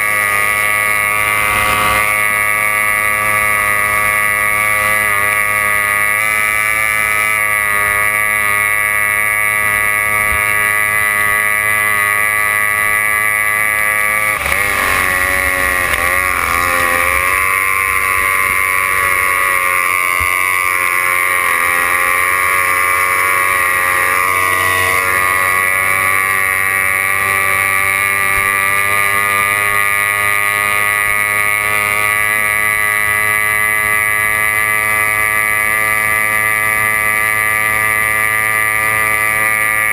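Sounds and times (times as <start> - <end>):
boat engine whining: 0.0 - 39.9.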